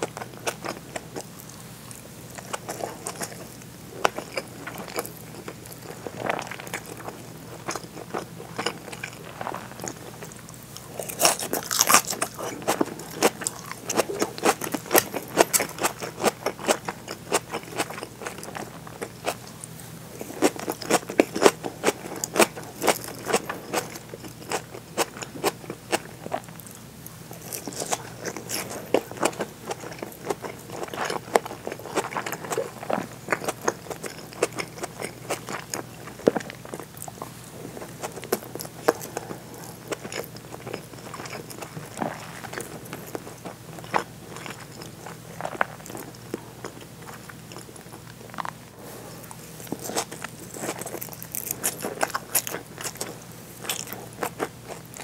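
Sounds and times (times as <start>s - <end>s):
close chewing with mouth clicks: 0.0s - 55.0s.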